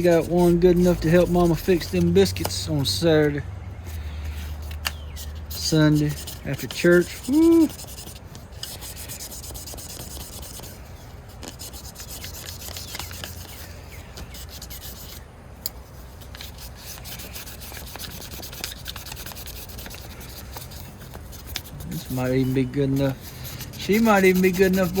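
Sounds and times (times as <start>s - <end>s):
sandpaper rubbing on blade: 0.0s - 2.9s, 4.4s - 15.2s, 15.9s - 25.0s.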